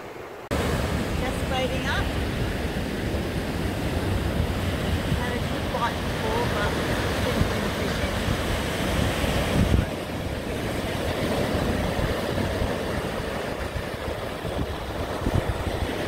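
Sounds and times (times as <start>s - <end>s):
surf breaking on beach: 0.0s - 16.0s
wind buffeting microphone: 0.5s - 16.0s.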